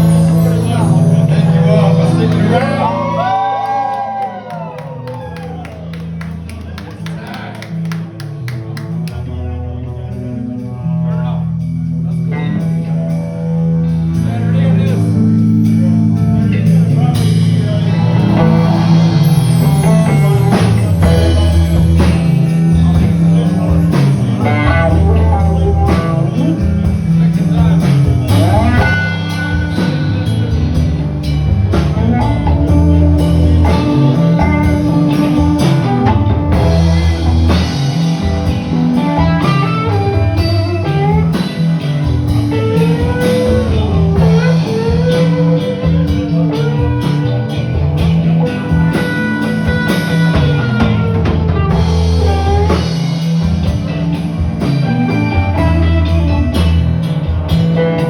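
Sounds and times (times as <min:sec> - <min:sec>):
blues-rock band playing: 0:00.0 - 0:58.0
lead guitar with bent notes: 0:00.0 - 0:58.0.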